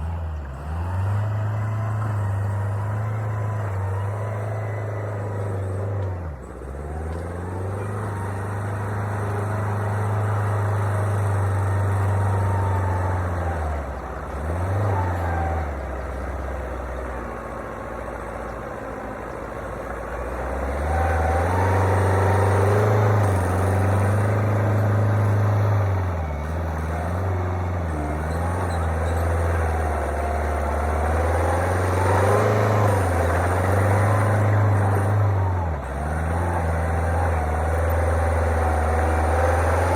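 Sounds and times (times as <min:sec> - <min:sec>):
diesel engine of construction machine: 0:00.0 - 0:39.9.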